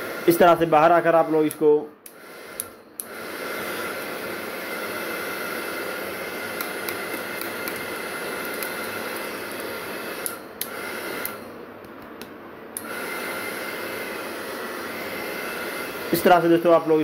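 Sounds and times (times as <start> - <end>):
vacuum cleaner motor whine: 0.0 - 11.6, 12.8 - 17.0.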